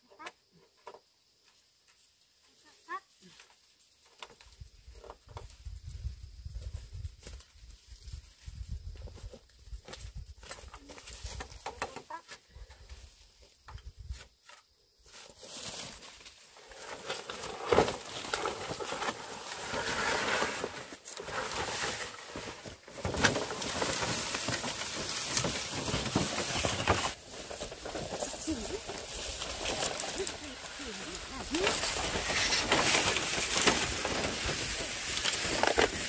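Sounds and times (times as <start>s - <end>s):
bamboo poles dragged over leaves: 1.4s - 36.0s.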